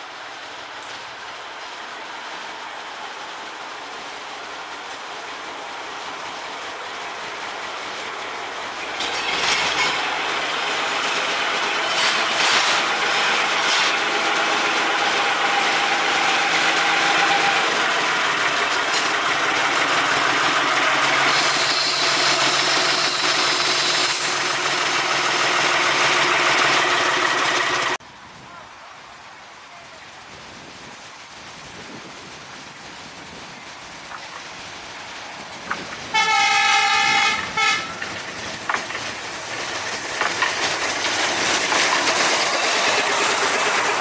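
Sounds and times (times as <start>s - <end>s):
miniature locomotive engine: 0.0s - 28.0s, 35.3s - 44.0s
wheels on rails: 0.0s - 28.0s, 30.6s - 44.0s.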